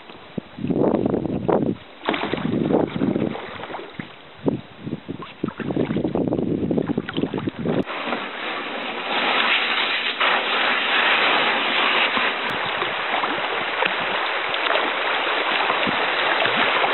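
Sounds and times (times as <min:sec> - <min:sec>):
shallow river water running: 0:00.0 - 0:16.9.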